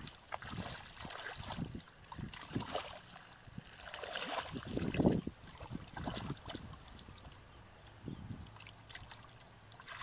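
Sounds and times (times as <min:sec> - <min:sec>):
splashing in muddy water: 0:00.0 - 0:07.6, 0:08.3 - 0:10.0.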